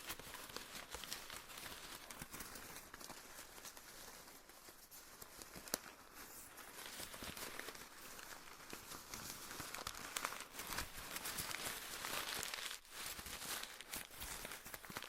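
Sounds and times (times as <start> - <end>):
paper tearing and crinkling: 0.0 - 15.0.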